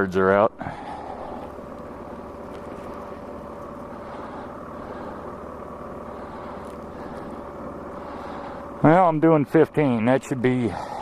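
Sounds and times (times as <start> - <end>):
car engine and road noise: 0.0 - 11.0
faint steady whine: 0.0 - 11.0.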